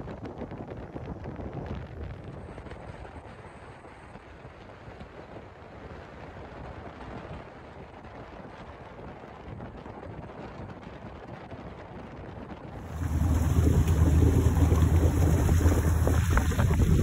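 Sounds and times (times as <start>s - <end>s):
jet boat engine and water: 0.1s - 9.7s, 12.6s - 17.0s.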